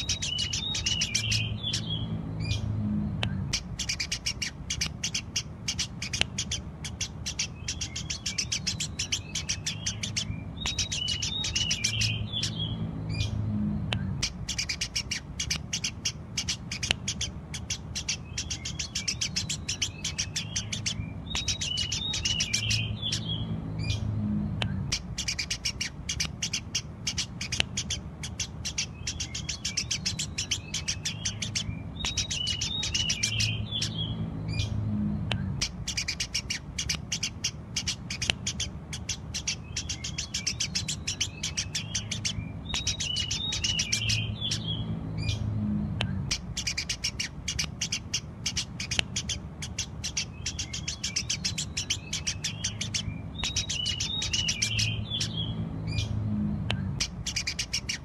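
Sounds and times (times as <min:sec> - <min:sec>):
sparrows chirping: 0:00.0 - 0:58.0
sparrows twittering: 0:00.0 - 0:58.0.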